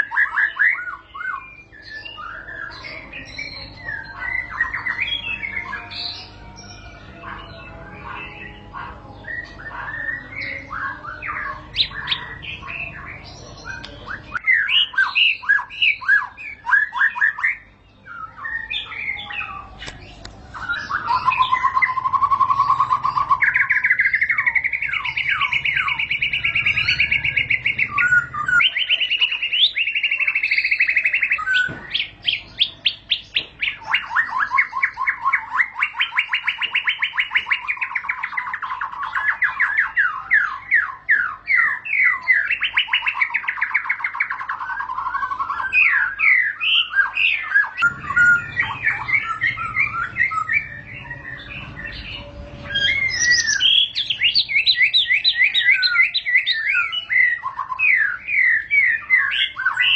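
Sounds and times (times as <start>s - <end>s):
bird rolling trills: 0.0s - 57.7s
bird singing whistled phrases: 0.0s - 59.9s.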